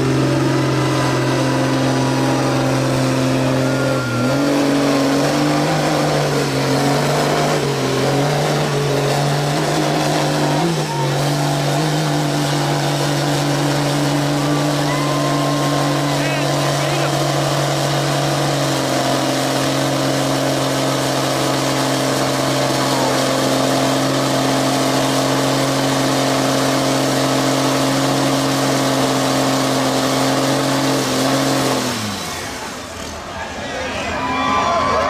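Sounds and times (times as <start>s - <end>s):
off-road vehicle engine running hard: 0.0s - 35.0s.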